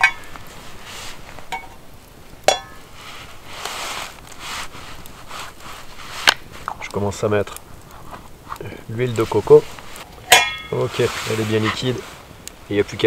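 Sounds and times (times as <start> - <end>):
fire crackling and hissing: 0.0 - 13.0.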